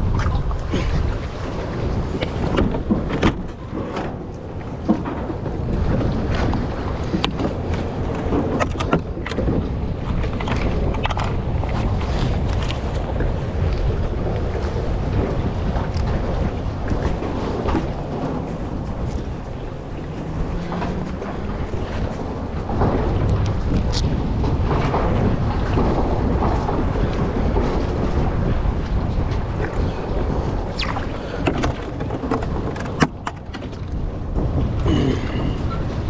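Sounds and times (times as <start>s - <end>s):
steady low rumble: 0.0s - 36.0s
wind buffeting microphone: 0.0s - 36.0s.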